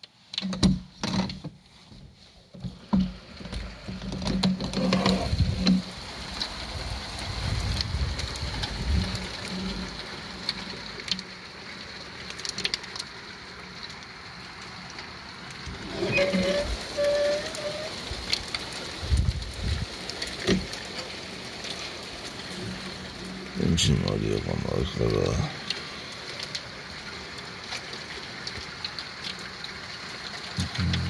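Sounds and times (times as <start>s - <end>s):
heavy rain on a window: 0.0s - 31.0s
hailstones ticking: 2.9s - 31.0s.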